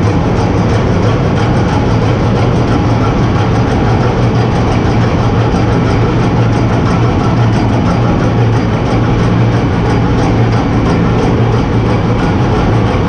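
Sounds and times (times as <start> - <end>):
engine room machinery drone: 0.0 - 13.0.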